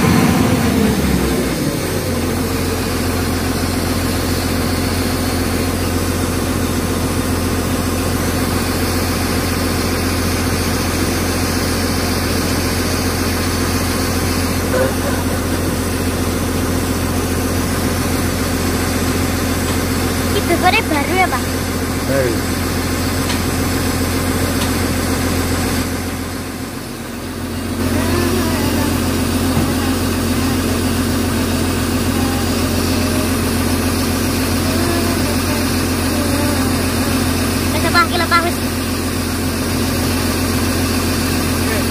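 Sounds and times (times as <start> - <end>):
excavator diesel engine idling: 0.0 - 41.9.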